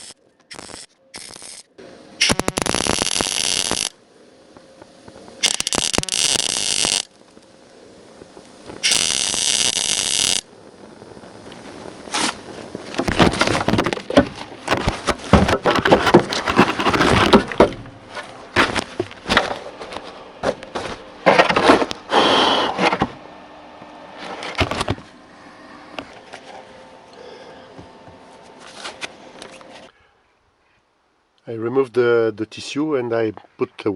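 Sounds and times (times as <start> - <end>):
welder buzzing and crackling: 0.0 - 29.9.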